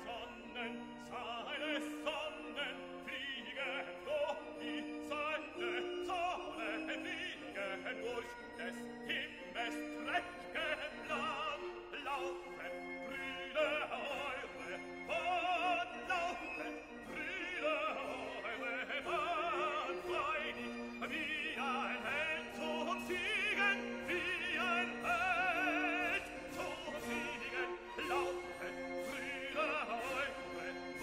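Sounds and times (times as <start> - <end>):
classical accompaniment: 0.0 - 31.0
operatic voice singing: 0.0 - 31.0.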